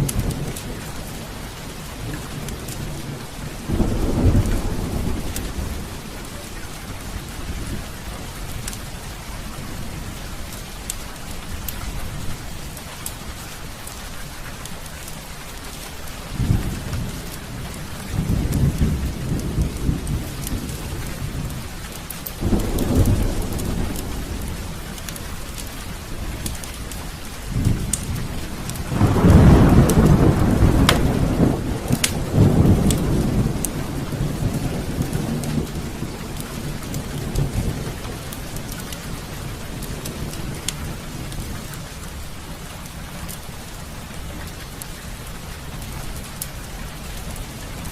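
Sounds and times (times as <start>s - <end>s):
rolling thunder: 0.0s - 12.8s, 16.2s - 42.3s
fire crackling: 0.0s - 47.9s
heavy rain falling: 0.0s - 47.9s.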